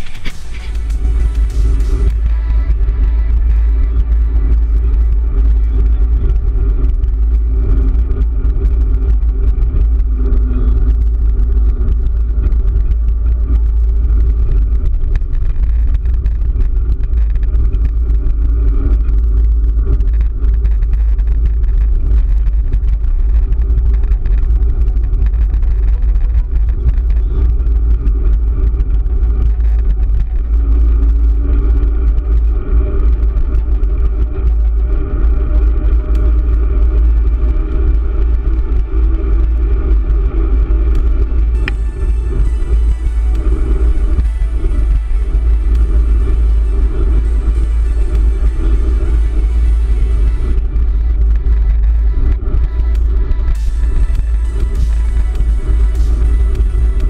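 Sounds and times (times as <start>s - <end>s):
wind buffeting microphone: 0.8s - 57.0s.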